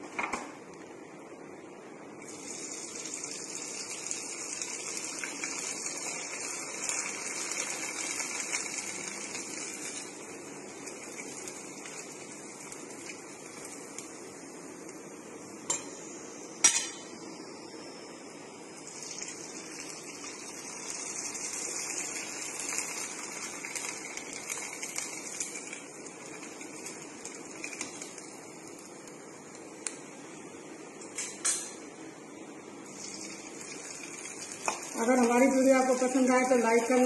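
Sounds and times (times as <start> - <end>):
oil sizzling and bubbling: 1.0 - 37.0.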